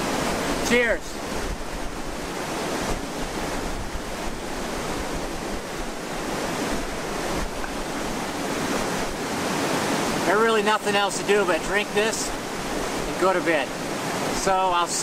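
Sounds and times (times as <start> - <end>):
mountain creek flowing: 0.0 - 15.0.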